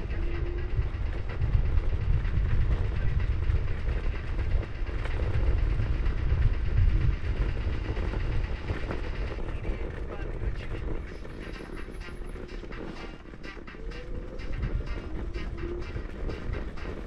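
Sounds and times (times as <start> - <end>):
rumbling wind: 0.0 - 17.0.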